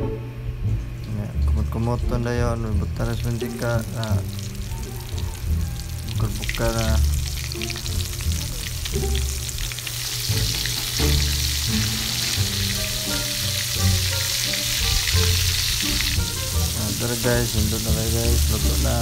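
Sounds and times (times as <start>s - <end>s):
chicken deep-frying in oil: 0.7s - 19.0s.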